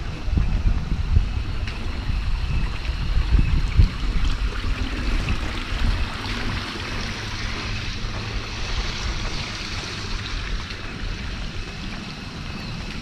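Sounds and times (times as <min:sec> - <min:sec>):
rushing open-air hiss: 0:00.0 - 0:13.0
wind buffeting microphone: 0:00.0 - 0:13.0.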